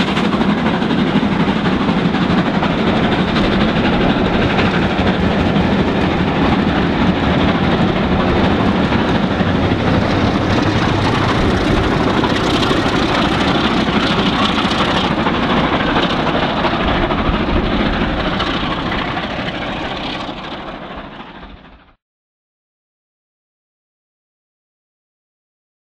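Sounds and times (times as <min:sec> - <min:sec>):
steam locomotive exhaust: 0:00.0 - 0:22.0.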